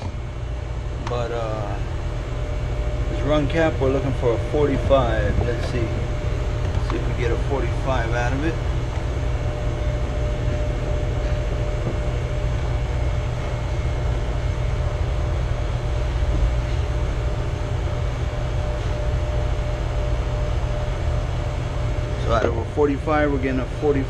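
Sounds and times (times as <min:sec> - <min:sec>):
faint steady whine: 0:00.0 - 0:24.0
machinery drone: 0:00.0 - 0:24.0.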